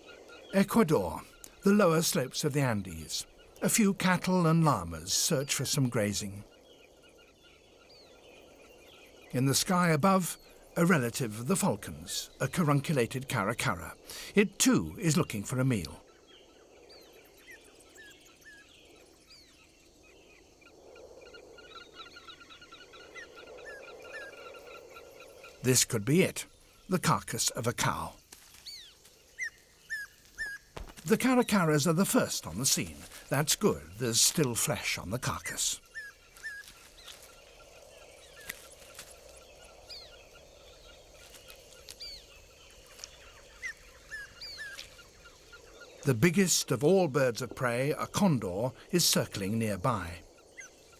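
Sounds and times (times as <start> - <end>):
soft outdoor hiss: 0.0 - 50.9
wild birds chirping: 0.0 - 50.9.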